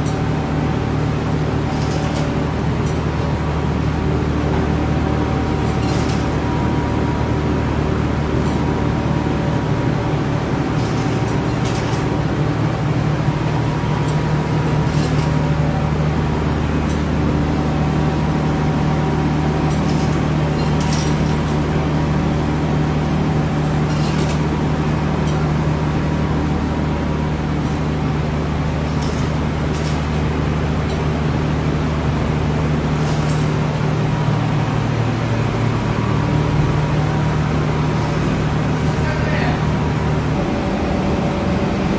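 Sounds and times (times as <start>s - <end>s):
machinery humming: 0.0s - 41.9s.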